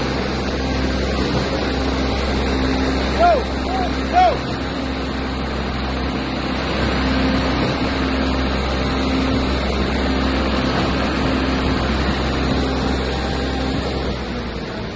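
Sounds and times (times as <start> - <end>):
diesel engines droning: 0.0 - 14.9.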